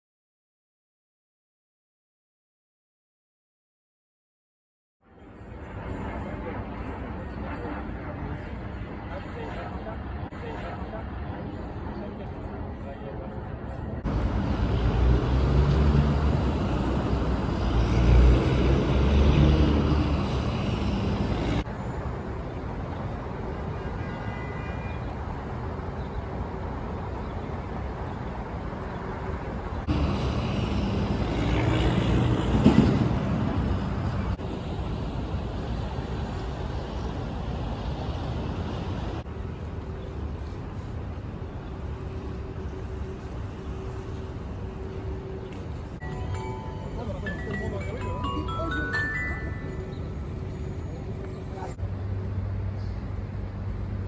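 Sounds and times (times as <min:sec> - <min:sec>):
city traffic rumble: 0:05.0 - 0:54.0
vehicles passing: 0:05.1 - 0:54.0.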